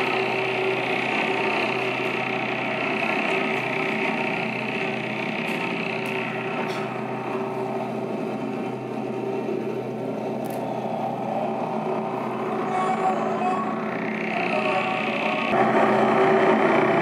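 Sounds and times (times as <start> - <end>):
steady droning hum: 0.0 - 17.0.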